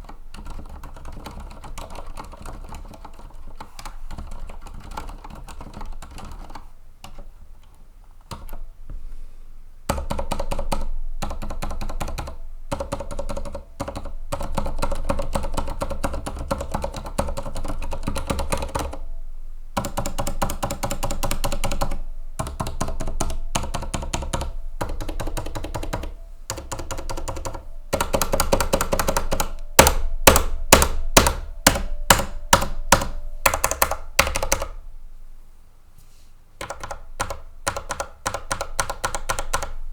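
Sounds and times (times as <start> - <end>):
mechanical keyboard typing: 0.0 - 7.3, 9.9 - 19.0, 19.8 - 34.8, 36.6 - 39.8.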